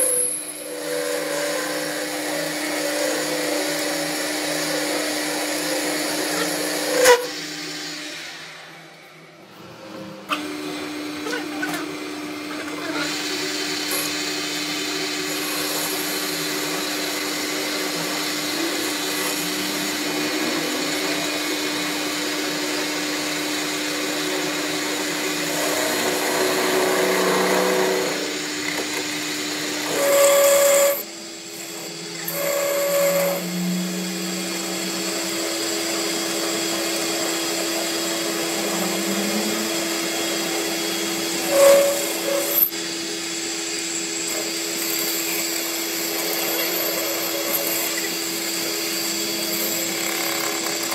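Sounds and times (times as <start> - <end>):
metal lathe cutting steel: 0.0 - 9.0, 9.8 - 50.9.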